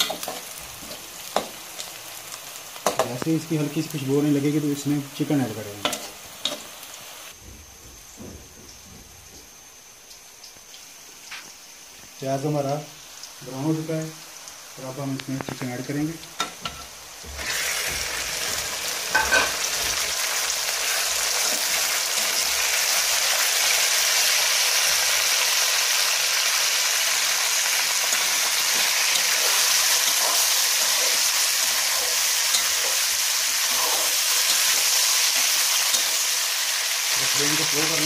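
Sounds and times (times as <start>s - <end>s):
chicken sizzling in hot oil: 0.0s - 7.4s, 10.1s - 38.0s.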